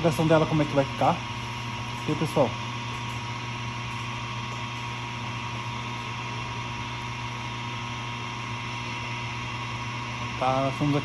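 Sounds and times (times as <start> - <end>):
washer-dryer spinning: 0.0 - 11.0.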